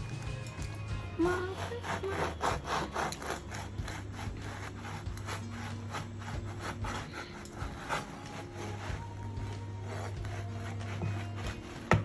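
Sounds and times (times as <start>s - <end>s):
low steady hum: 0.0s - 12.0s
rubbing or scraping strokes: 0.0s - 12.0s.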